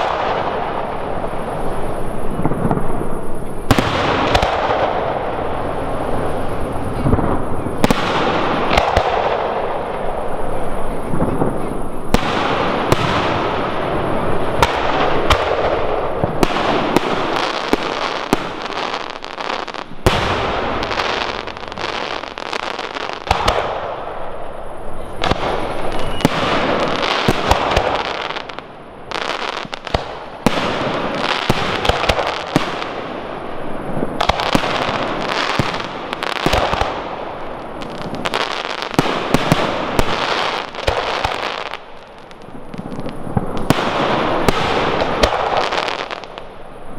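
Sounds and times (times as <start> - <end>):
fireworks bangs: 0.0 - 46.9
fireworks crackling: 0.0 - 46.9.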